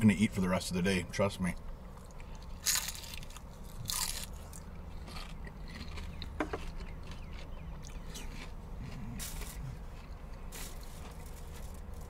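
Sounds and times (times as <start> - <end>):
crunchy chicken being chewed: 1.9 - 12.0.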